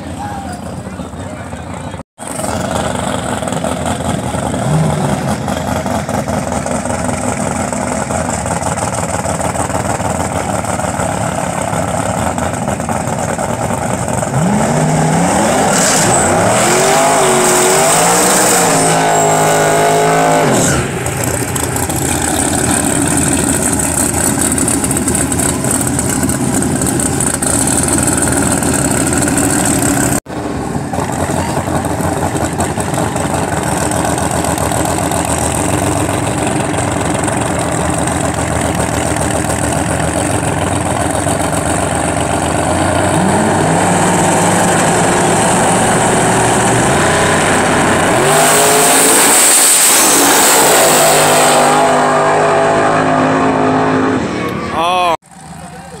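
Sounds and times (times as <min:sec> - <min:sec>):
drag racing car engines: 0:00.0 - 0:56.0
car engine revving: 0:00.9 - 0:56.0.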